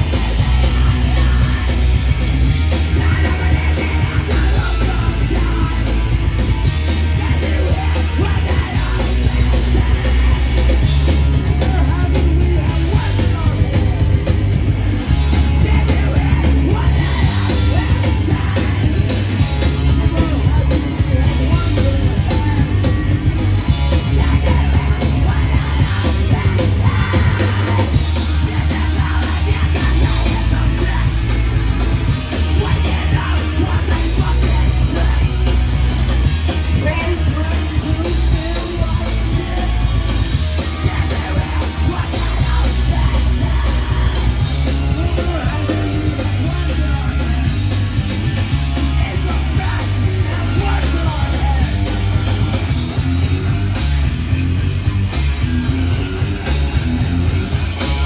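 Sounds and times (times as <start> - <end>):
heavy bass line: 0.0 - 58.0
rock band playing live: 0.0 - 58.0
shouted vocals: 0.0 - 58.0.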